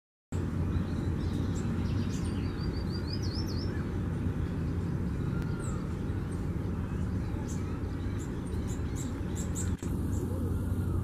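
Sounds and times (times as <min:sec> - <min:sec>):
steady low rumble: 0:00.4 - 0:11.0
warbler singing: 0:00.4 - 0:11.0.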